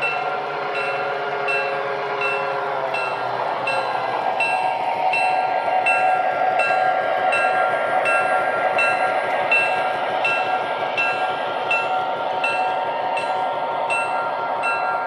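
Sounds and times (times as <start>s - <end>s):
bell ringing: 0.0s - 15.0s
model locomotive diesel rumble: 0.0s - 15.0s
wheels on track: 0.0s - 15.0s.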